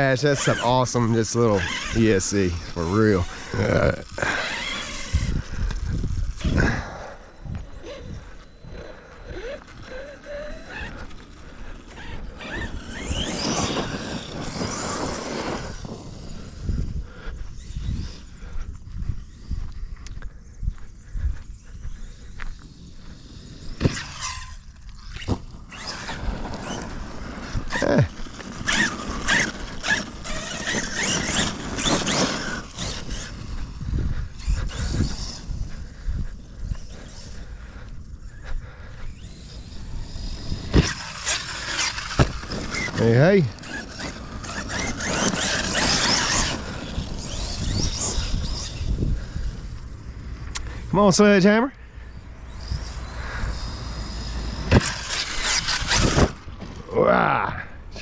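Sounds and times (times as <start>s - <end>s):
electric motor whining: 0.0s - 58.0s
tyre and ground noise: 0.0s - 58.0s.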